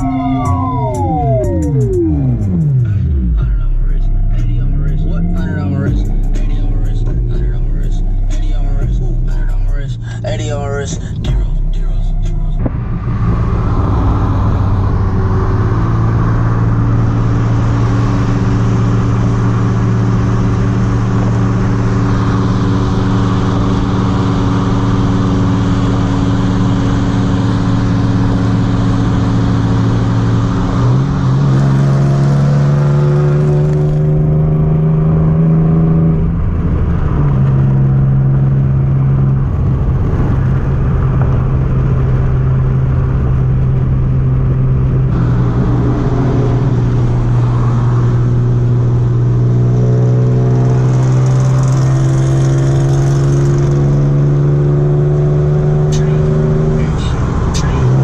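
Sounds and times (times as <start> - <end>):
car engine cruising: 0.0 - 58.0.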